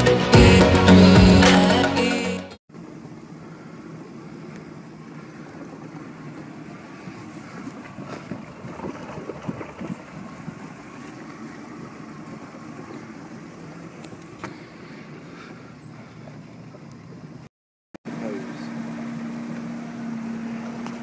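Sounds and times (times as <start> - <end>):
boat engine idling: 2.7 - 17.5, 18.1 - 21.0.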